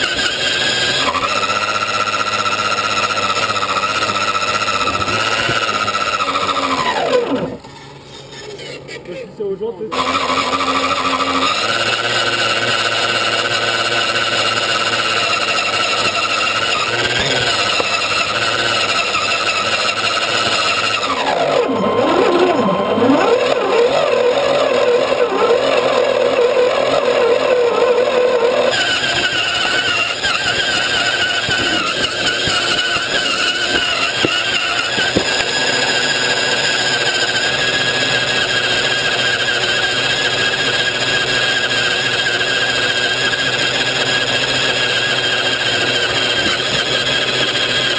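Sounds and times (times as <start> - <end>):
toy car motor and gear whine: 0.0 - 9.2, 9.9 - 47.9.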